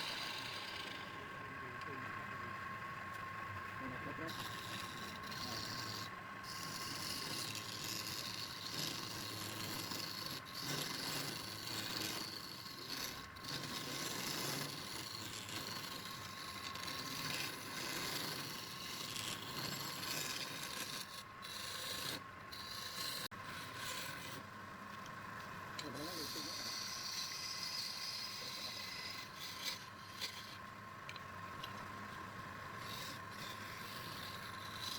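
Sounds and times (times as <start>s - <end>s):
abrasive tool rasping wood: 0.0s - 2.0s, 3.8s - 24.6s, 25.8s - 30.7s, 31.6s - 34.9s.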